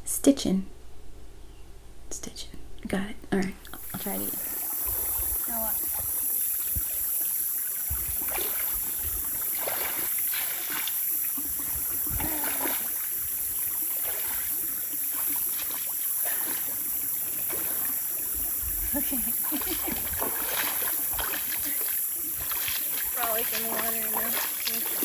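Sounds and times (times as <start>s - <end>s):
water rushing: 3.8s - 25.0s.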